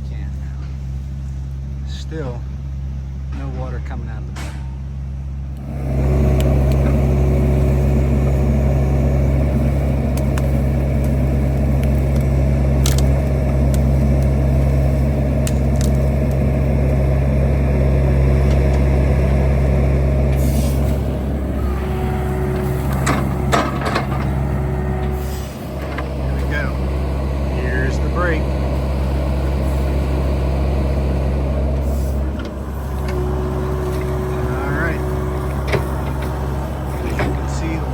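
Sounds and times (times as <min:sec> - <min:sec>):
heavy machinery engine running: 0:00.0 - 0:37.9.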